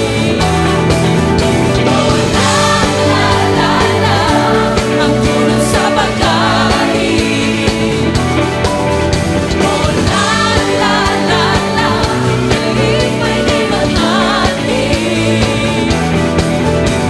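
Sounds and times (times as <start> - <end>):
person singing: 0.0 - 8.8, 9.4 - 16.7
steady drum beat: 0.0 - 17.0
worship song by a band: 0.0 - 17.0.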